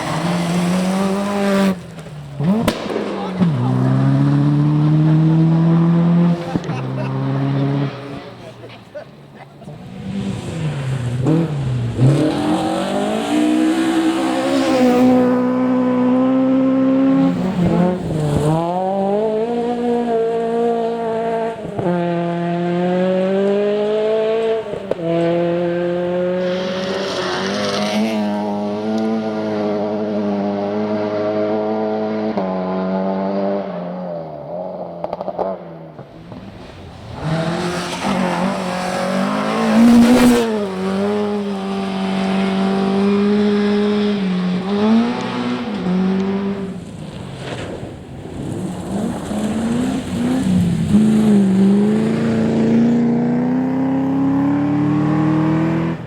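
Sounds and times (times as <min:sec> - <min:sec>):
rally car engines revving past: 0:00.0 - 0:56.0.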